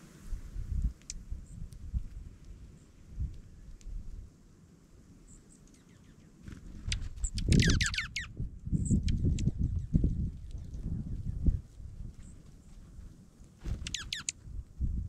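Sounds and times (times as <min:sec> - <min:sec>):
small songbirds chirping: 0:00.8 - 0:04.0, 0:05.2 - 0:13.0, 0:13.7 - 0:14.9.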